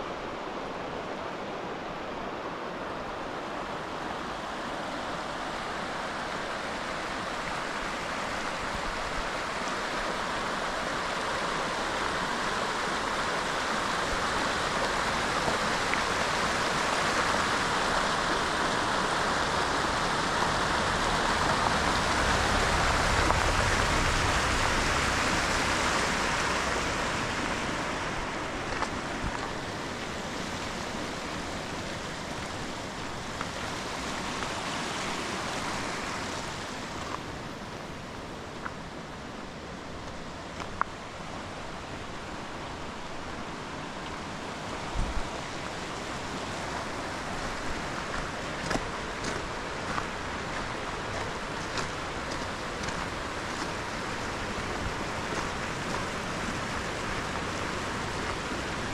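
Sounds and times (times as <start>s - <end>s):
mountain stream rushing: 0.0s - 58.9s.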